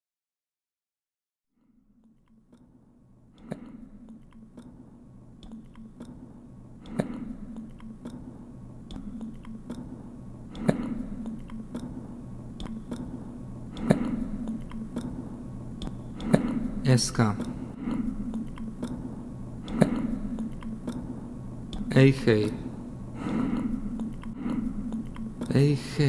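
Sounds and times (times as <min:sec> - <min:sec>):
steady low hum: 0:01.7 - 0:26.0
faint scattered clicks: 0:03.4 - 0:26.0.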